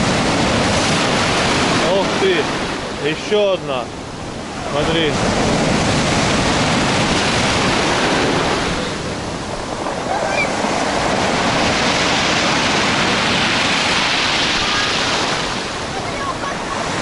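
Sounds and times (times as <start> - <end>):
waves breaking on shore: 0.0 - 17.0.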